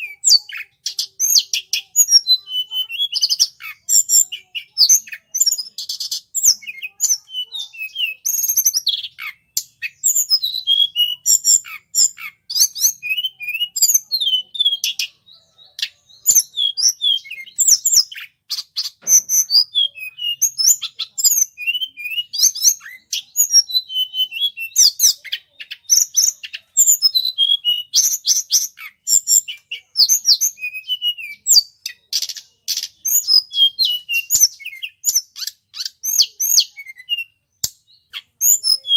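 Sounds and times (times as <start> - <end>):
high-pitched bird chirps: 0.0 - 38.9.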